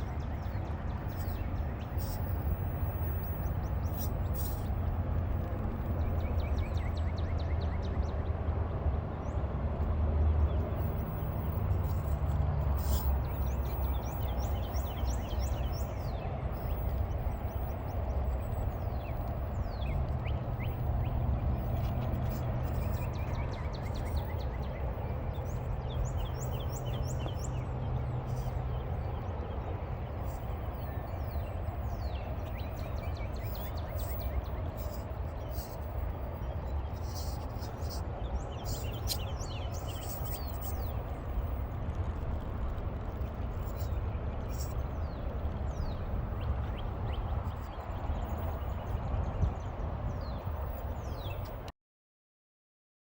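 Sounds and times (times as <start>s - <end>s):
birds chirping: 0.0s - 51.7s
steady low rumble: 0.0s - 51.7s.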